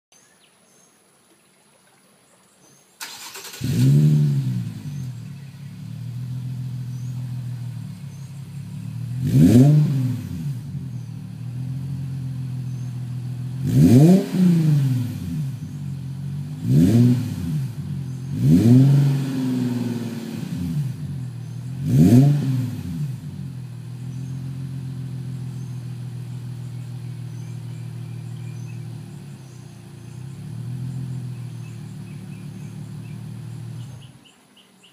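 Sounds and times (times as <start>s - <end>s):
car engine idling and revving: 3.0s - 34.6s.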